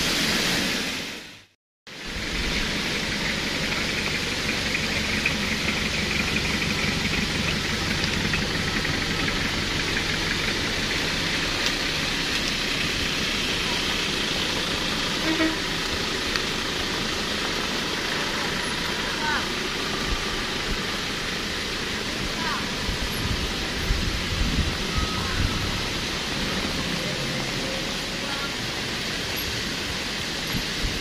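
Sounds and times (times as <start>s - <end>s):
rain hissing: 0.0s - 31.0s
vehicle engines at low speed: 1.9s - 31.0s.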